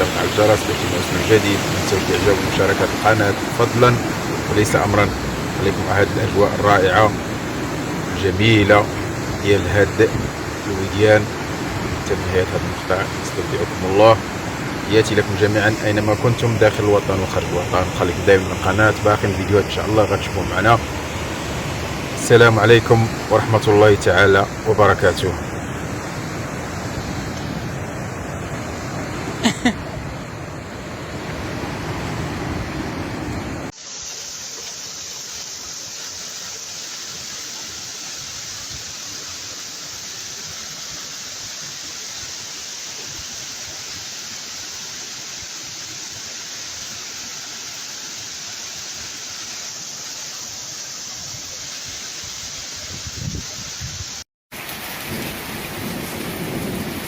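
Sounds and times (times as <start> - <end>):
rushing floodwater: 0.0 - 57.0.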